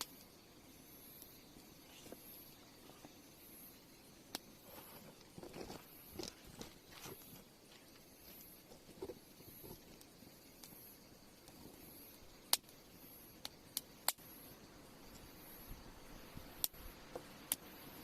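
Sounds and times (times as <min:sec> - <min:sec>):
burning wood popping: 0:00.0 - 0:18.0
campfire burning: 0:00.0 - 0:18.0.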